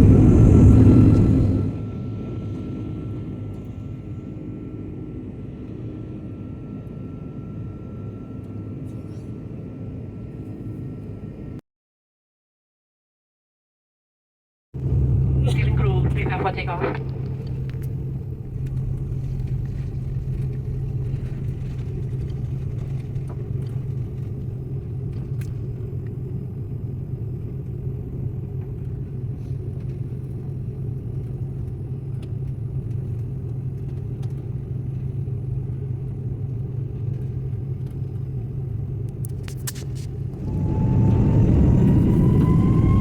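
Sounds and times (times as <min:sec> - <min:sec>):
airliner cabin engine hum: 0:00.0 - 0:11.6, 0:14.8 - 0:43.0.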